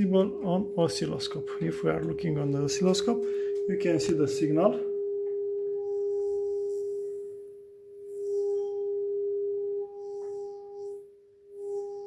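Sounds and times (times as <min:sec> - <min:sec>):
steady test tone: 0:00.0 - 0:12.0.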